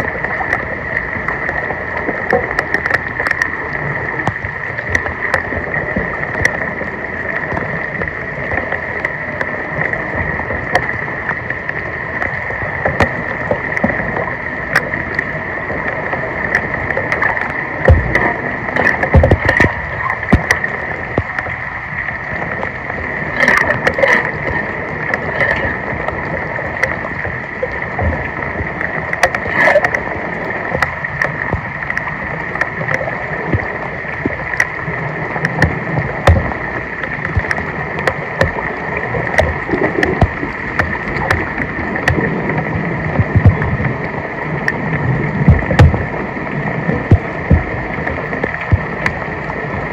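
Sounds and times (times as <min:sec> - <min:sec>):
floodwater running and gurgling: 0:00.0 - 0:49.9
water splashes: 0:00.0 - 0:49.9.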